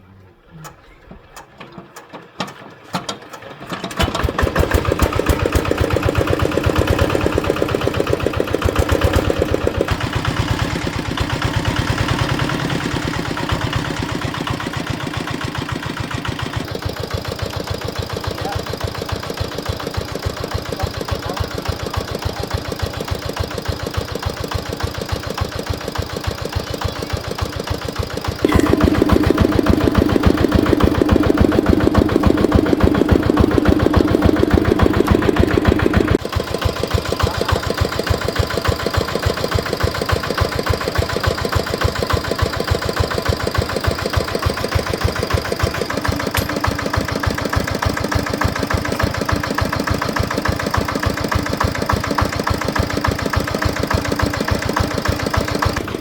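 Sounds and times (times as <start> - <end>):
diesel engine idling: 2.7 - 56.0.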